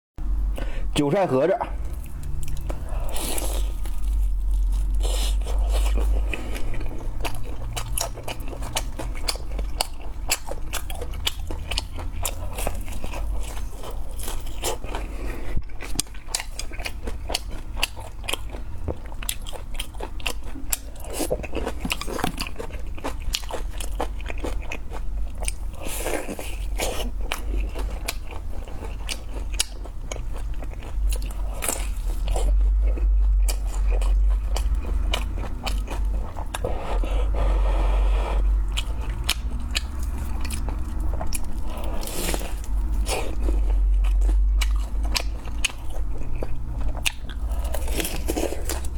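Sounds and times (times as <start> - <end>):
low steady hum: 0.2 - 48.9
crunchy bites and chewing: 1.8 - 37.4, 38.4 - 48.9.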